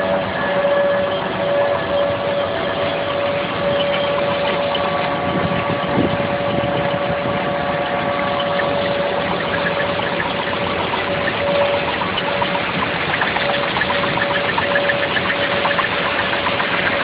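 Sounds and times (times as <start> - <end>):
engine-like machinery drone: 0.0 - 17.0
steady whine: 0.0 - 17.0.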